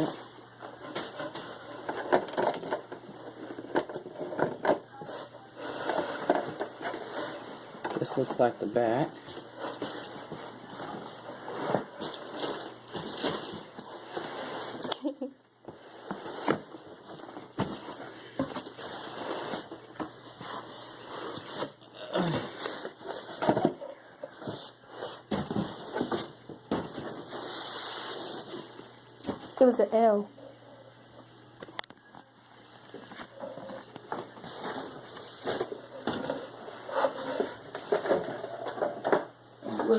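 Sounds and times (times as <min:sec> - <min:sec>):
plastic wrap rustling and crinkling: 0:00.0 - 0:30.2, 0:31.7 - 0:39.9.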